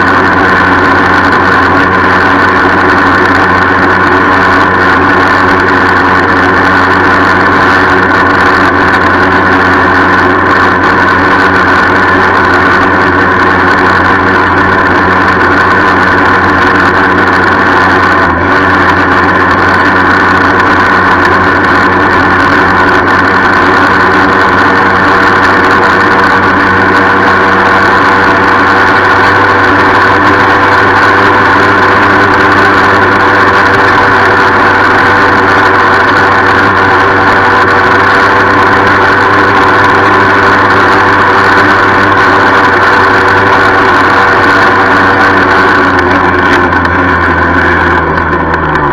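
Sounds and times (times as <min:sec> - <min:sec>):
moped engine running: 0:00.0 - 0:48.9.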